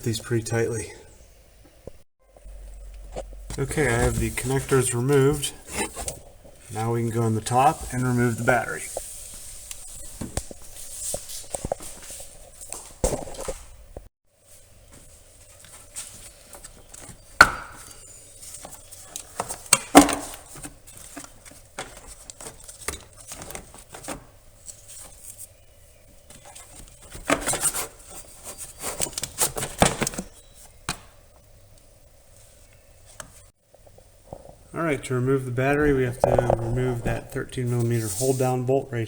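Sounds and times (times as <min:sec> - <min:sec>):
rustling: 0:02.3 - 0:38.7.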